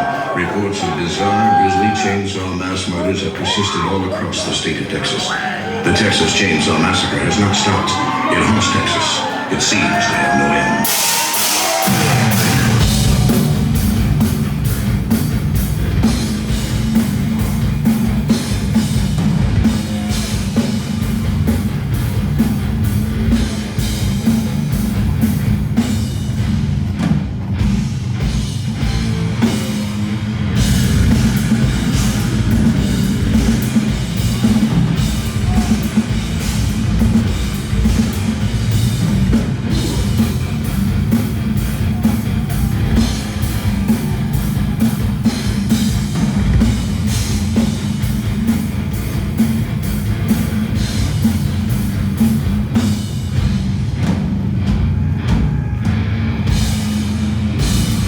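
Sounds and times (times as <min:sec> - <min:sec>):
death metal band playing live: 0:00.0 - 0:58.0.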